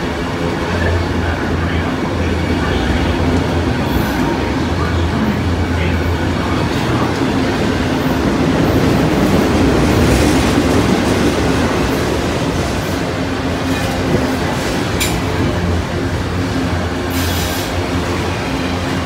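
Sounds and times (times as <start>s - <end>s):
rattle of train cars: 0.0s - 19.0s
train wheels rumbling on rails: 0.0s - 19.0s.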